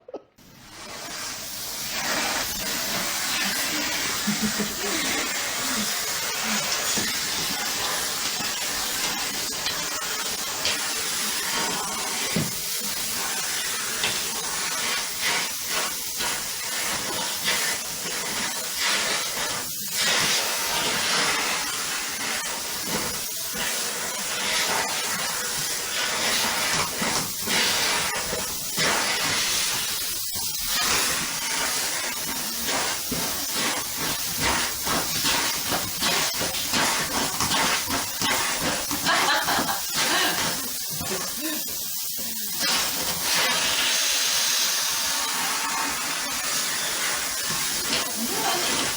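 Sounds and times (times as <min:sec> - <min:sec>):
vacuum cleaner running: 0:00.4 - 0:48.9.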